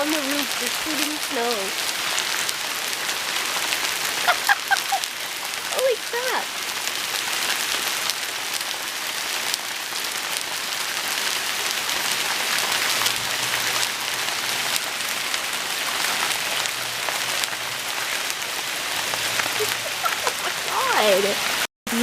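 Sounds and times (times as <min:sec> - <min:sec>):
heavy hail pelting surfaces: 0:00.0 - 0:22.0.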